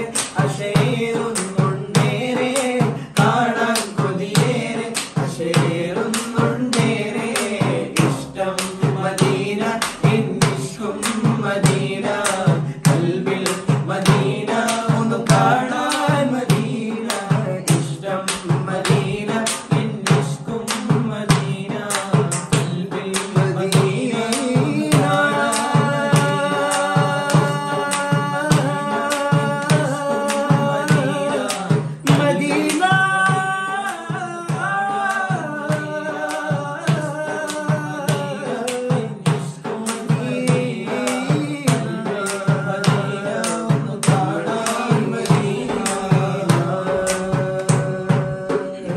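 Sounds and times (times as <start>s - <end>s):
men singing devotional song: 0.0s - 48.9s
percussion beat: 0.0s - 48.9s.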